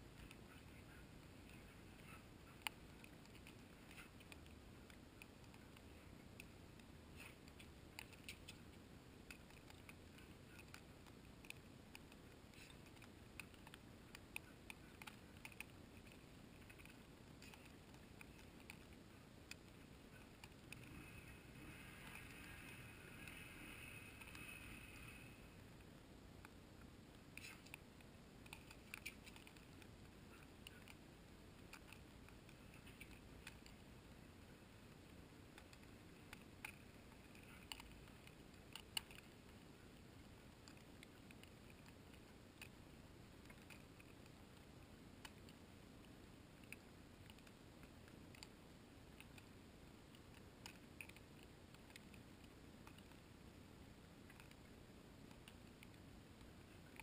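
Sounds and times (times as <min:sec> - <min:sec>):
faint hiss: 0:00.0 - 0:57.0
small ticks and clicks: 0:00.0 - 0:57.0.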